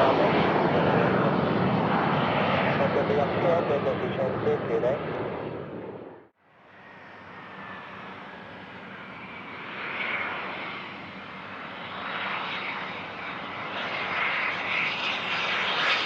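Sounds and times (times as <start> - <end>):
jet engines rushing: 0.0 - 16.0.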